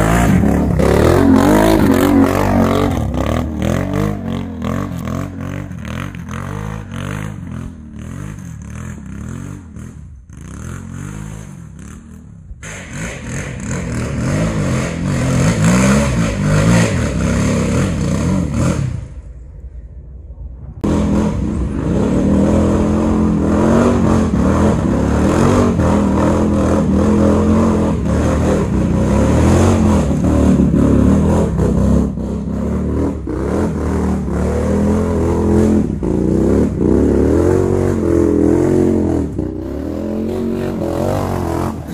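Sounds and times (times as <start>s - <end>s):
quad bike engines revving: 0.0s - 19.3s, 20.8s - 41.9s.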